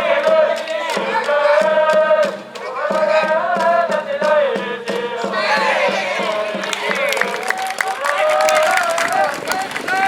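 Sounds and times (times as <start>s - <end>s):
crowd chanting: 0.0s - 10.0s
steady drum beat: 0.0s - 10.0s.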